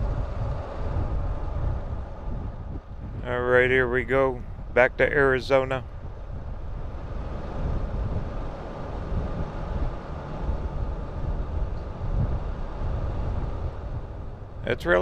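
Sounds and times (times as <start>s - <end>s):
van driving rumble: 0.0s - 15.0s.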